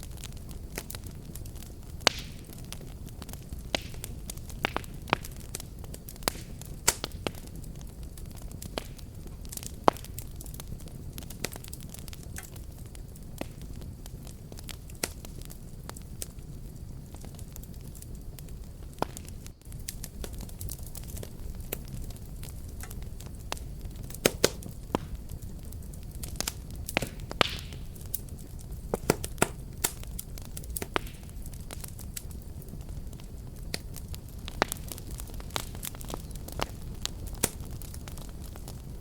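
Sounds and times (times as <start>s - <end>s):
fire popping: 0.0s - 39.0s
fireplace fire crackling: 0.0s - 39.0s.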